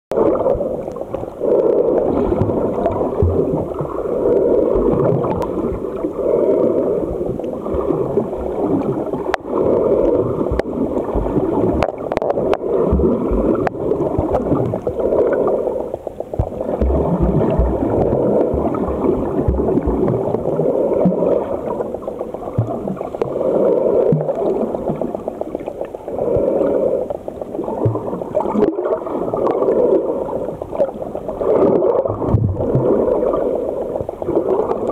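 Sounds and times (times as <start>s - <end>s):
underwater rushing gurgle: 0.1s - 34.9s.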